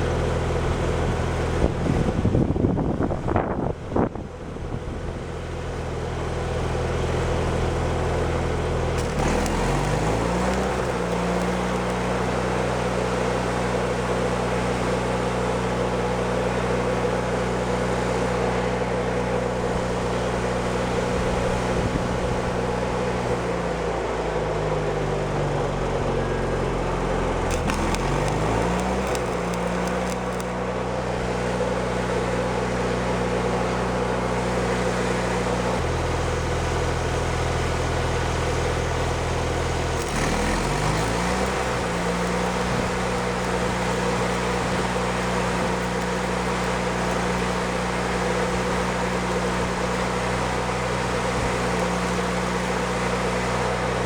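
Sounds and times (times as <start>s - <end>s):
engine running and revving: 6.3s - 24.0s, 24.6s - 30.5s, 31.4s - 54.0s.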